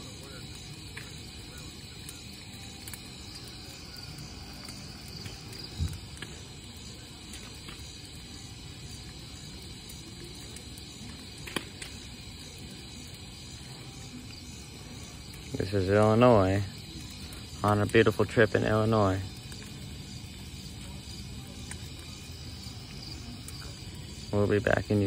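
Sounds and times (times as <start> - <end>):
night insects chirring: 0.0 - 25.0.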